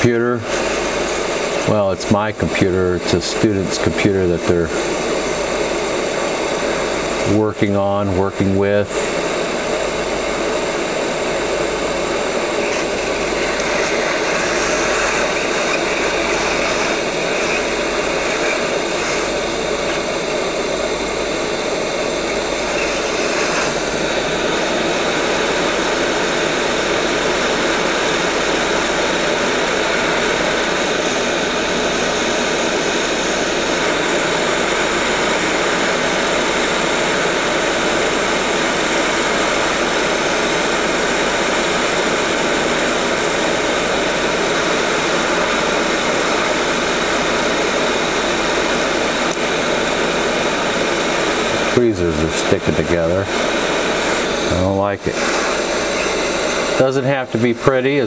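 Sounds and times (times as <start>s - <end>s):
hot air station rushing hiss: 0.0s - 58.0s.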